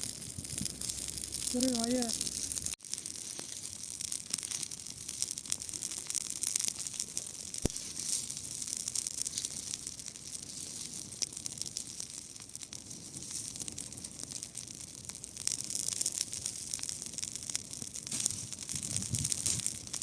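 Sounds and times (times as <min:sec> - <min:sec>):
dry grass burning crackling: 0:00.0 - 0:20.0
fire pop: 0:00.0 - 0:20.0.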